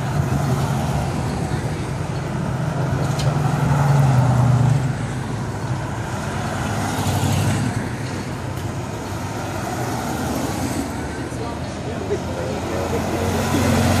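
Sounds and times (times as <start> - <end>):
car engines humming: 0.0 - 14.0
tyre and road noise: 0.0 - 14.0.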